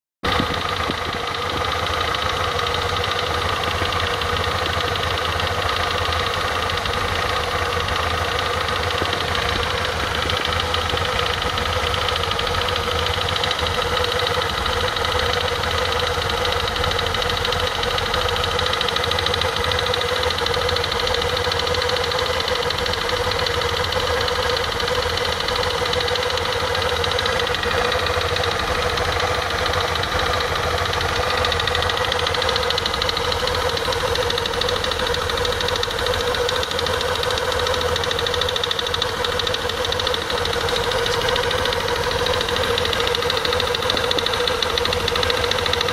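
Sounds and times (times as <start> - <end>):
scooter engine running: 0.3 - 45.9
transmission knocking noise: 0.3 - 45.9.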